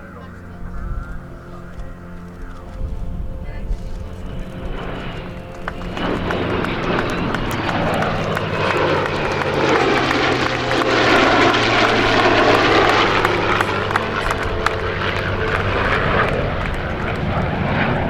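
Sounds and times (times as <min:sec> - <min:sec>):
aircraft flypast roar: 0:00.0 - 0:18.0.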